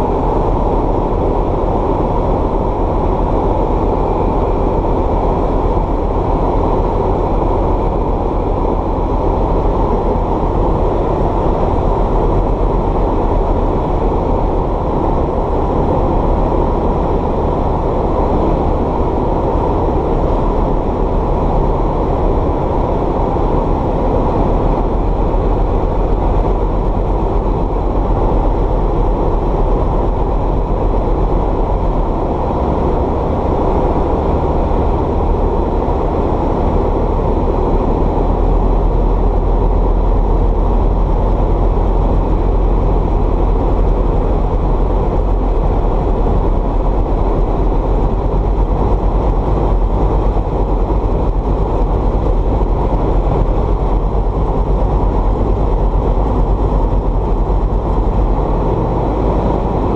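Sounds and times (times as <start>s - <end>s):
propeller aircraft engine drone: 0.0s - 59.9s.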